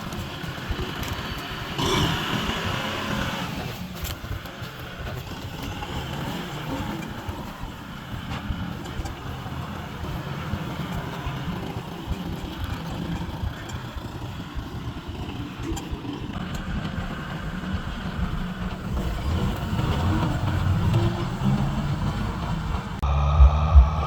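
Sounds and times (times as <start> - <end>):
tractor diesel engine rumbling: 0.0 - 24.0.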